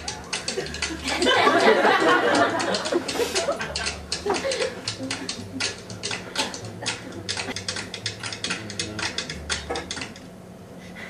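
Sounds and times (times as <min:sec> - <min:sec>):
rapid irregular clicks: 0:00.0 - 0:10.3.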